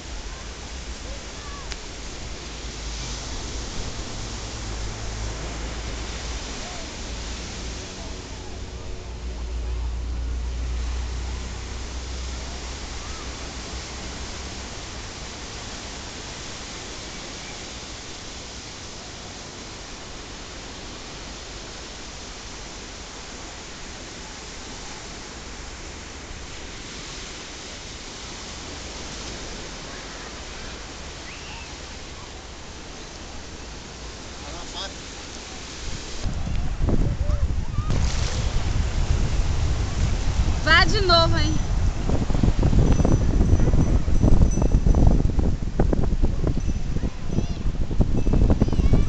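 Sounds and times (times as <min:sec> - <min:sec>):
wind rumbling on microphone: 0:00.0 - 0:34.4, 0:35.3 - 0:49.0
surf washing onto beach: 0:00.0 - 0:49.0.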